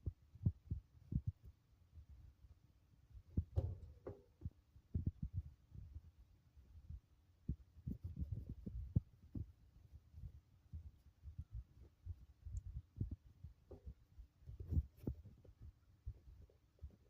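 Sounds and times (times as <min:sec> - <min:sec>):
soft low thumps and rumble: 0:00.0 - 0:01.6, 0:03.2 - 0:17.0.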